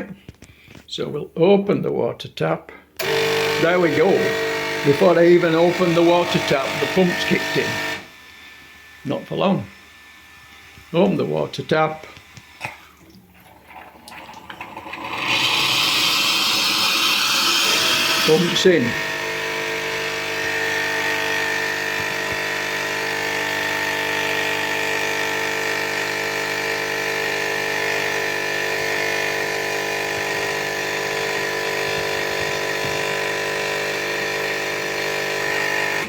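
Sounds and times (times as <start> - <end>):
water pump humming with whine: 3.0 - 36.0.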